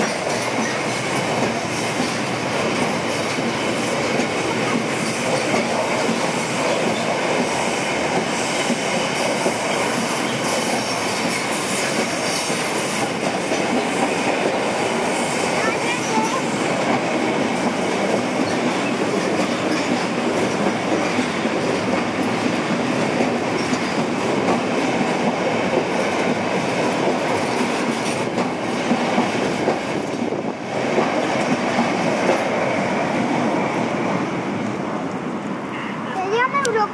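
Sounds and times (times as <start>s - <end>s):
train wheels clattering over rails: 0.0s - 34.4s.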